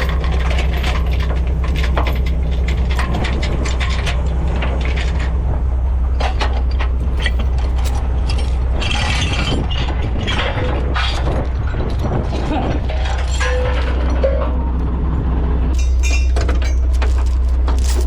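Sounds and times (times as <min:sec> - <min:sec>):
chains clinking and rattling: 0:00.0 - 0:05.3, 0:06.9 - 0:14.5, 0:15.7 - 0:18.0
truck engine idling: 0:00.0 - 0:18.0.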